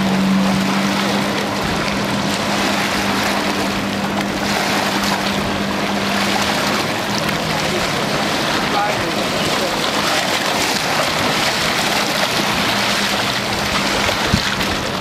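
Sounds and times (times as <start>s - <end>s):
motorboat engine humming: 0.0s - 15.0s
wind and water noise: 0.0s - 15.0s.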